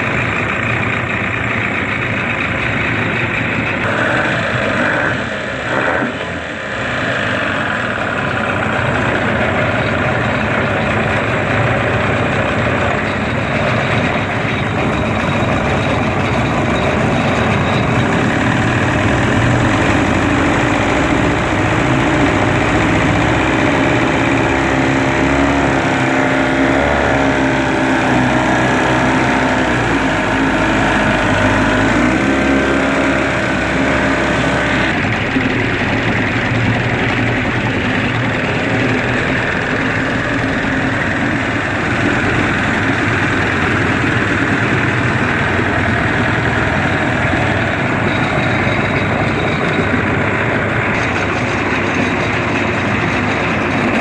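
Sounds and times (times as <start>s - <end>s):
outboard motor running: 0.0s - 54.0s
propeller churning water: 0.0s - 54.0s.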